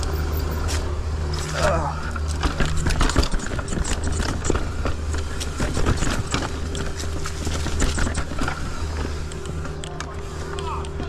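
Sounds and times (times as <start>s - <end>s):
bike rattling on dirt trail: 0.0s - 11.0s.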